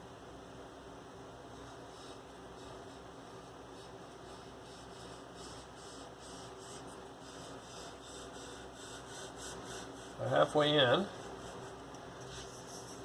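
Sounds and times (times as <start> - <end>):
faint steady hiss: 0.0 - 13.0
low electrical hum: 0.0 - 13.0.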